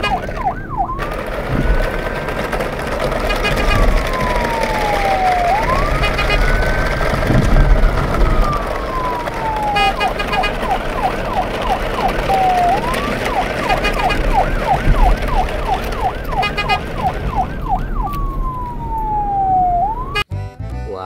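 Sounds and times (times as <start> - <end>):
siren wailing and yelping: 0.0 - 1.0, 3.3 - 20.3.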